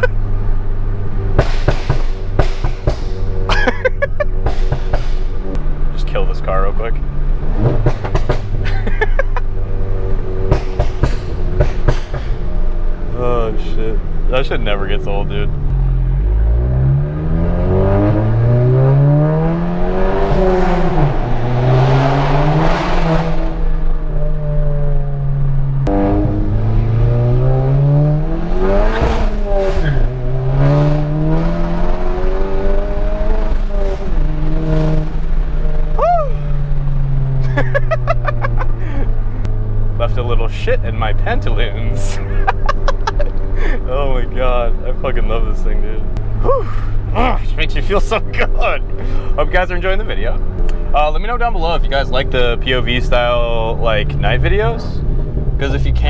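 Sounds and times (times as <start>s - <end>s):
exhaust popping and banging: 0.0s - 24.6s, 25.7s - 56.0s
car engine drone: 0.0s - 56.0s.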